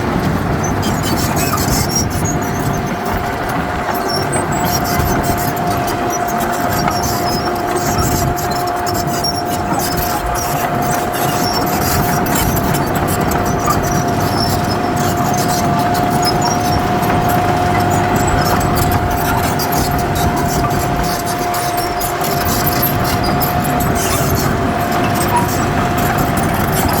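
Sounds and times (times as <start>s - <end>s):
constant high whine: 0.0s - 27.0s
diesel engine running: 0.0s - 27.0s
clicks and rattles: 0.2s - 27.0s.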